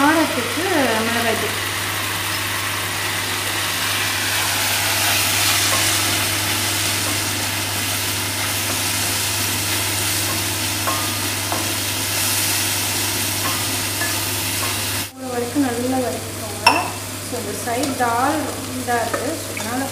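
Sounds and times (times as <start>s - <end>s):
food sizzling in a pan: 0.0s - 19.9s.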